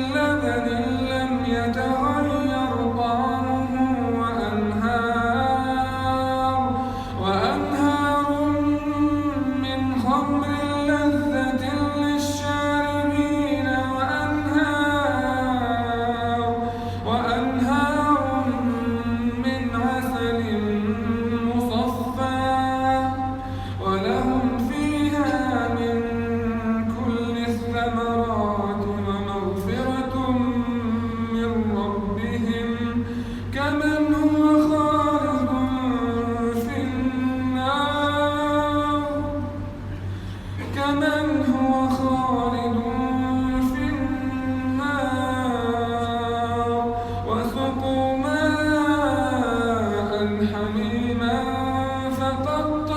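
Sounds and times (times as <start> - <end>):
man reciting melodically: 0.0 - 52.9.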